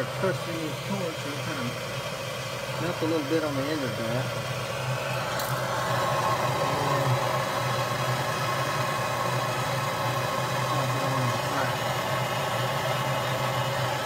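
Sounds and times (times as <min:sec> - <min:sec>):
torch flame rushing: 0:00.0 - 0:14.0.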